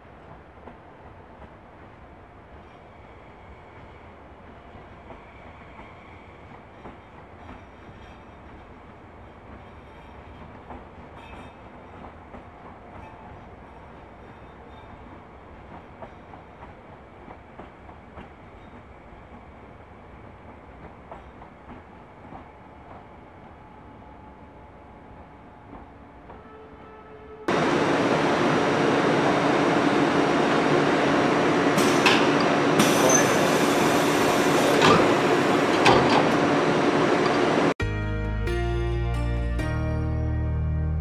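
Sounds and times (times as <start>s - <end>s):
electric train rumbling: 0.0s - 37.8s.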